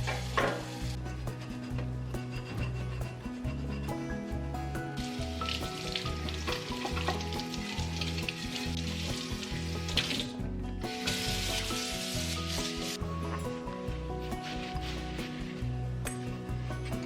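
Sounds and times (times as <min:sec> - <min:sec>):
sizzling hiss: 0:00.0 - 0:16.5
background music with bass: 0:00.0 - 0:17.0.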